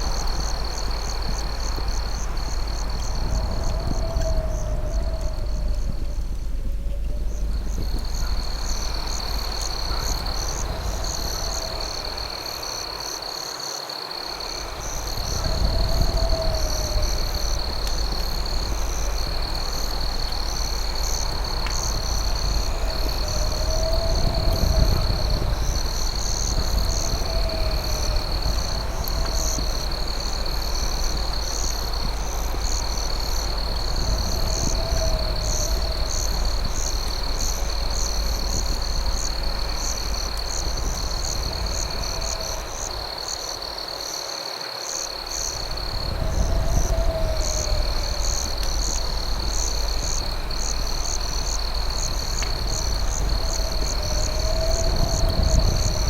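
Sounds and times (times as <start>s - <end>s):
steady low rumble: 0.0s - 13.0s, 14.4s - 43.7s, 45.2s - 56.0s
crickets trilling and chirping: 0.0s - 56.0s
short low insect call: 0.0s - 56.0s.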